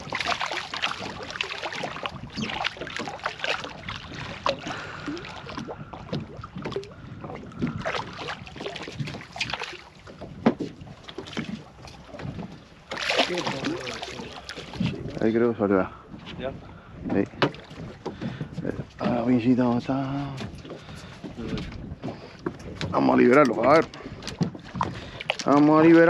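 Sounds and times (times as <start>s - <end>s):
knocks and clatter on boat: 0.0s - 26.0s
water lapping against boat: 0.0s - 26.0s.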